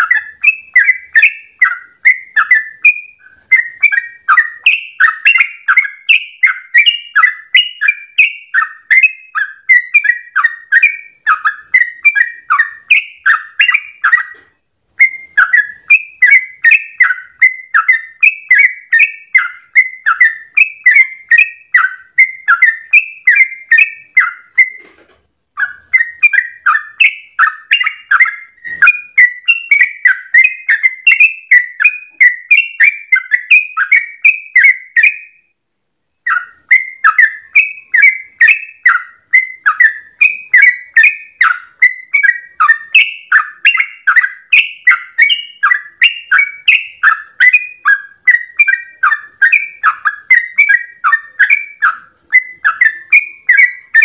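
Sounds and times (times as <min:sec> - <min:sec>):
bird singing bubbly chattering notes: 0:00.0 - 0:14.4, 0:15.0 - 0:24.8, 0:25.6 - 0:35.4, 0:36.3 - 0:54.0.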